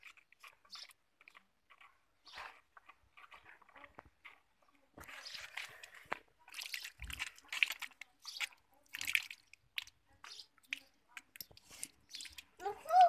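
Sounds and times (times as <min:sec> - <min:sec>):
hose water splashing on paving: 0:00.0 - 0:13.0.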